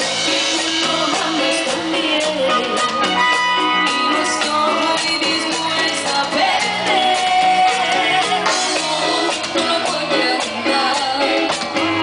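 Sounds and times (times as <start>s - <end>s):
live band music over loudspeakers: 0.0s - 12.0s
woman singing: 0.0s - 12.0s.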